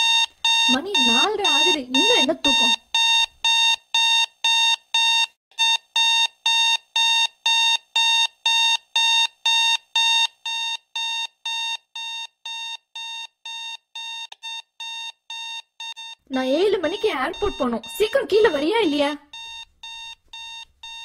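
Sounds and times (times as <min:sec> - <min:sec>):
alarm clock beeping: 0:00.0 - 0:21.0.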